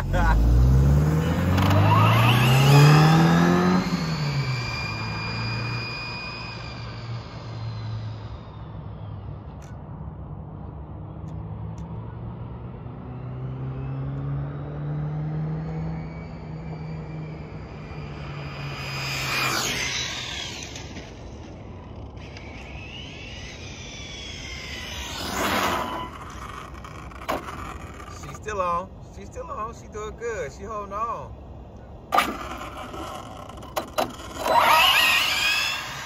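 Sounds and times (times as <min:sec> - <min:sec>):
distant car engine accelerating: 0:00.0 - 0:29.0, 0:32.0 - 0:36.0
rc car whining past: 0:00.0 - 0:29.0, 0:32.0 - 0:36.0.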